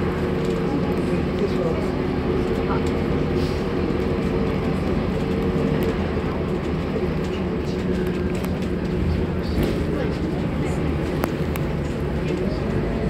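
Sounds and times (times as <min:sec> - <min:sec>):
diesel bus engine droning: 0:00.0 - 0:13.0
low road rumble: 0:00.0 - 0:13.0.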